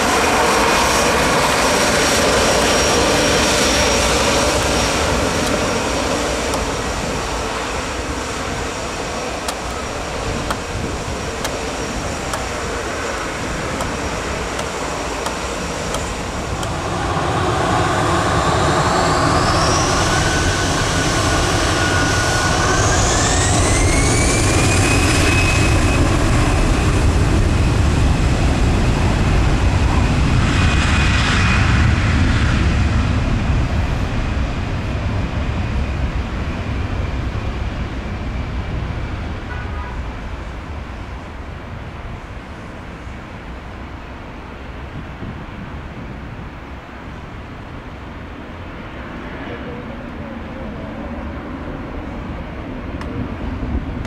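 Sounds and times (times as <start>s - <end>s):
jet engines spooling up with whine: 0.0s - 54.0s.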